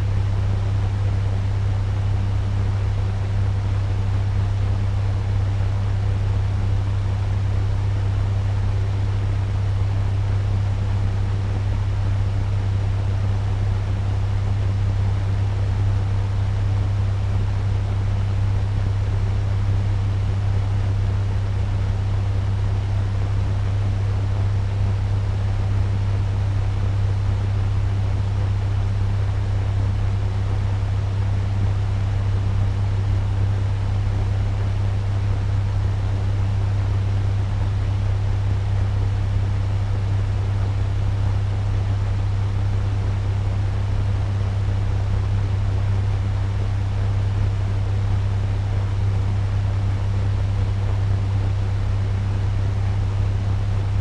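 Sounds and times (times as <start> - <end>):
fan rushing air with low hum: 0.0 - 54.0.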